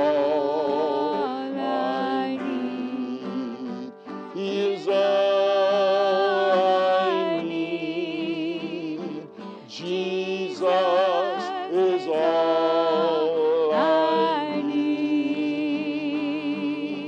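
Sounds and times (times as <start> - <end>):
acoustic guitar: 0.0 - 17.0
man singing worship song: 0.0 - 17.0.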